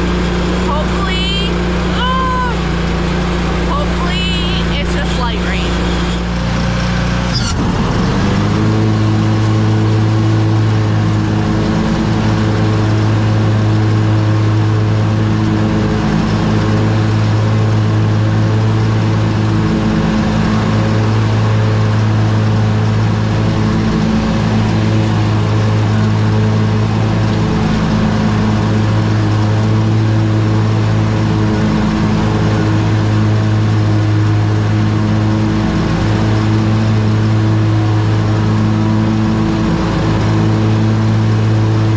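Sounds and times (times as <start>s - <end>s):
riding lawn mower engine: 0.0s - 41.9s.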